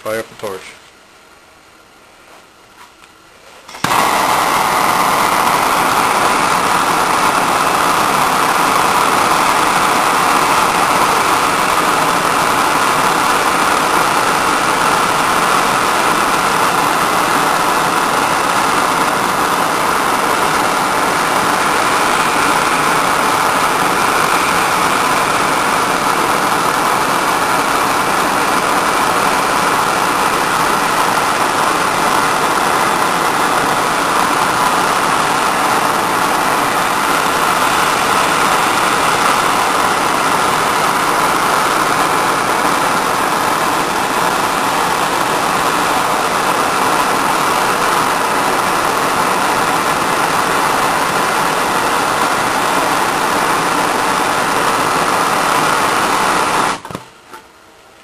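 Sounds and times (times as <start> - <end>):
gas torch rushing: 2.8 - 57.5.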